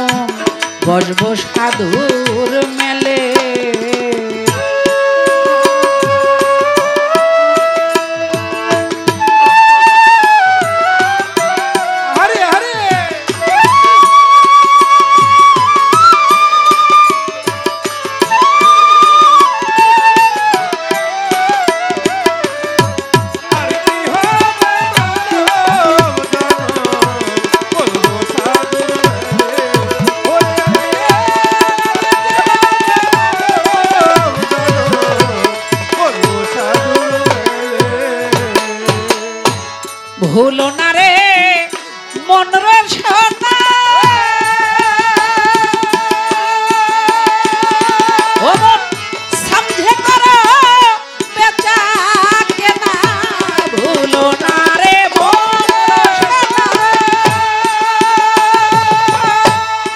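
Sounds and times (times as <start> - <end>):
fast tabla rhythm: 0.0 - 59.9
violin folk melody: 0.0 - 59.9.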